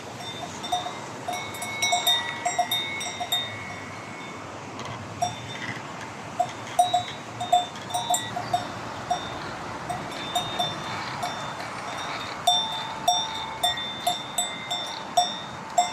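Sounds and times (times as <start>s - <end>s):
livestock bells clanking: 0.0s - 4.5s, 5.2s - 5.8s, 6.4s - 15.9s
stream rushing: 0.0s - 15.9s.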